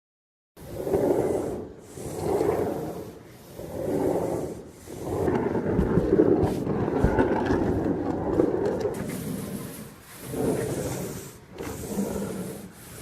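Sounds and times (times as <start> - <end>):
rough scraping on wood: 0.6 - 13.0.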